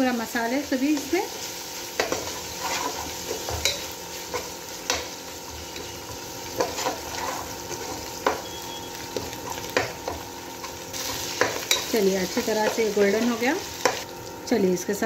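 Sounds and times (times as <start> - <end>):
food frying in oil: 0.0 - 15.0.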